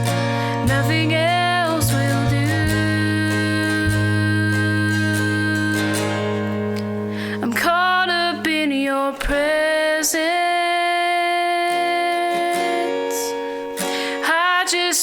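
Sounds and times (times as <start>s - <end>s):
acoustic guitar: 0.0s - 15.0s
person singing: 0.0s - 15.0s.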